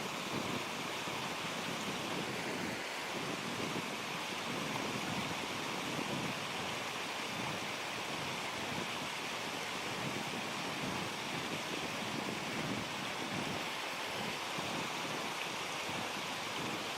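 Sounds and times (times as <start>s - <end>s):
stream water rushing: 0.0s - 16.9s.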